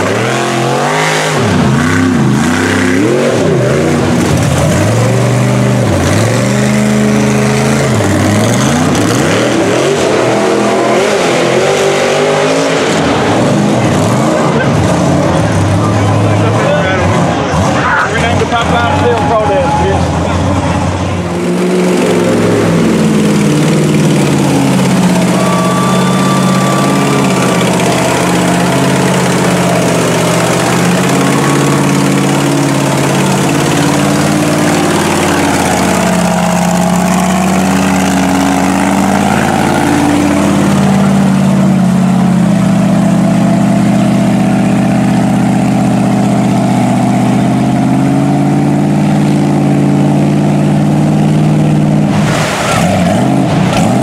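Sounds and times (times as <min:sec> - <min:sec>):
truck engine running hard: 0:00.0 - 0:54.0.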